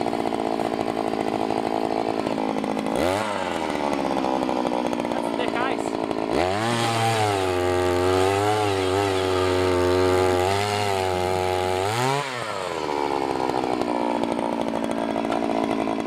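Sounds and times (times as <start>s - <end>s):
ice auger engine revving: 0.0s - 16.0s.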